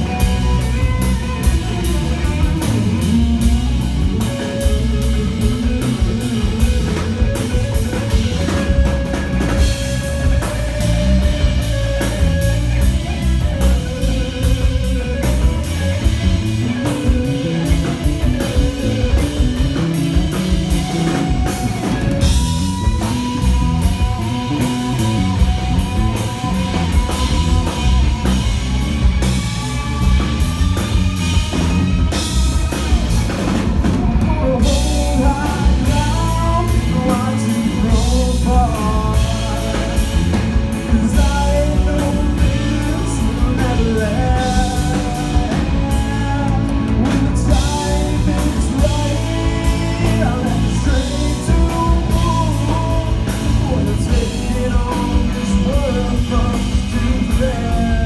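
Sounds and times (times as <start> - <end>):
bass guitar: 0.0 - 58.0
drum kit: 0.0 - 58.0
electric guitar bending notes: 0.0 - 58.0.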